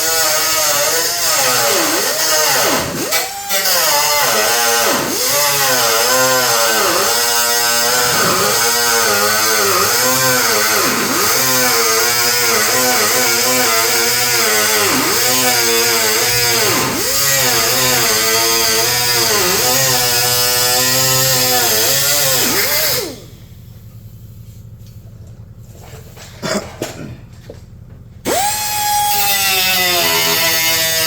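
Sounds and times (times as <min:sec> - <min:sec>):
cutoff wheel cutting sheet metal: 0:00.0 - 0:23.2, 0:28.3 - 0:31.0.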